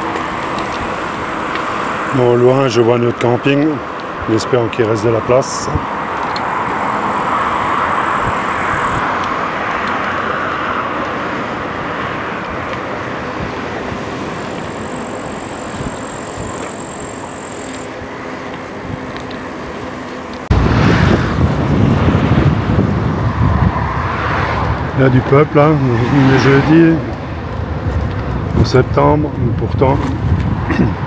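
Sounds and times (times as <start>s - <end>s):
cars passing: 0.0s - 31.0s
tyres rushing on road: 0.0s - 31.0s
wind rumble on microphone: 0.0s - 31.0s.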